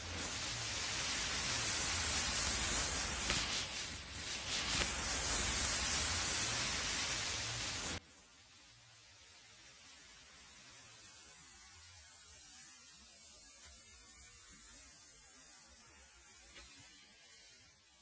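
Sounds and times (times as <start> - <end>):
match heads flaring hiss: 0.0 - 18.0.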